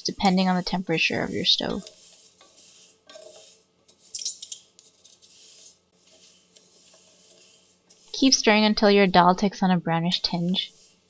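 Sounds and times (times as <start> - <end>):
spatula scraping beans in pot: 0.0 - 8.8, 10.1 - 11.0.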